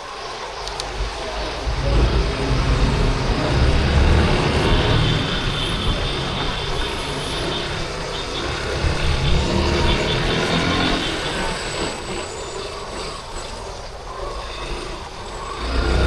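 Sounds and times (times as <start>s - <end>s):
faint high whine: 0.0s - 16.0s
surrounding traffic: 0.0s - 16.0s
wind noise: 0.0s - 16.0s.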